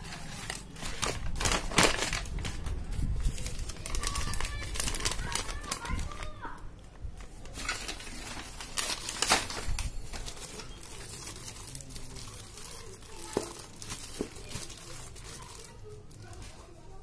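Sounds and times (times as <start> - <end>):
plastic bag and paper crinkling: 0.0 - 17.0.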